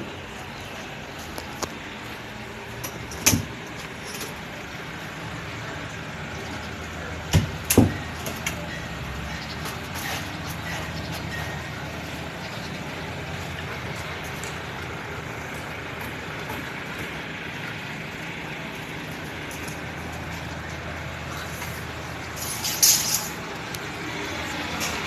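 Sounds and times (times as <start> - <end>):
motor vehicle running: 0.0 - 25.0.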